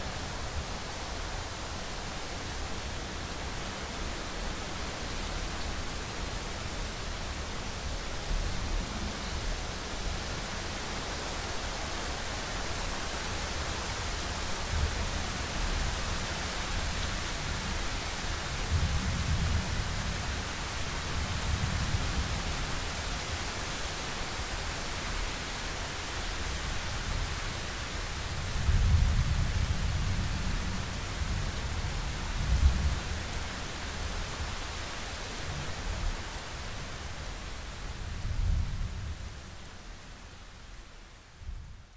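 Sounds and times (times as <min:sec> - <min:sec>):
rain hiss: 0:00.0 - 0:41.9.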